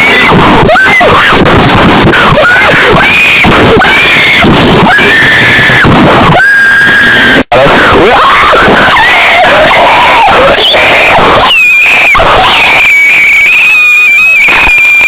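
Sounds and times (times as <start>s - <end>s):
distorted screaming alarm: 0.0s - 15.0s.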